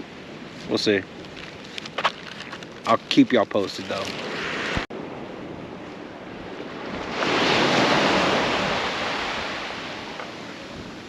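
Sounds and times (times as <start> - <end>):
ocean surf washing on beach: 0.0 - 11.0
wave breaking: 0.6 - 4.9, 5.7 - 11.0.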